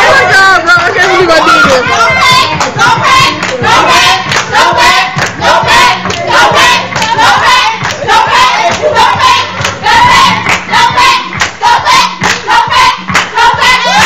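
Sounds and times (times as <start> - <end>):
people clapping in rhythm: 0.0 - 14.0
people singing and shouting: 0.0 - 14.0.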